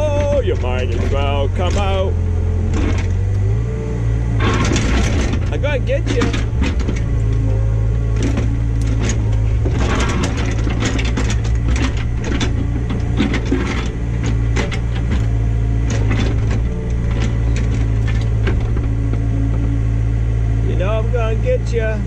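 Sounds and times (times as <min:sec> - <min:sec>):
digging machine engine running: 0:00.0 - 0:22.0.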